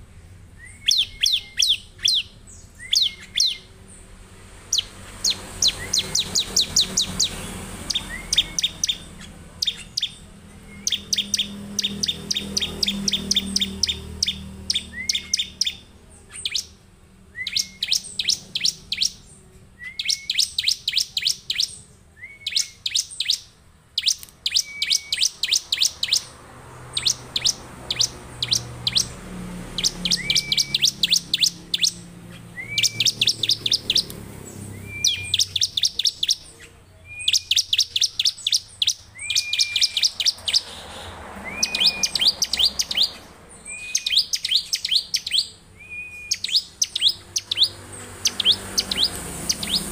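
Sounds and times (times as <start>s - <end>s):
bird singing rapid high notes: 0.2s - 49.9s.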